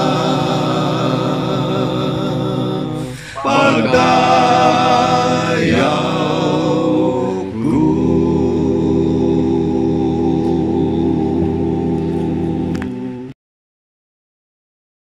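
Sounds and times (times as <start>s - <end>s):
a cappella hymn harmony: 0.0s - 13.4s.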